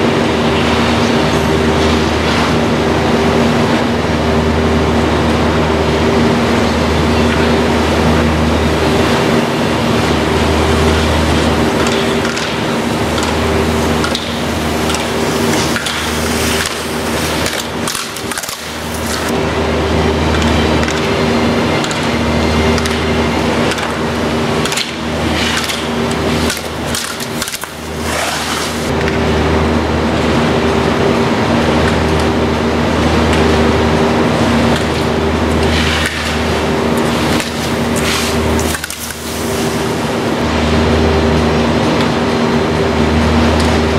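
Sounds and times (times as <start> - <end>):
low machine hum with hiss: 0.0 - 43.9.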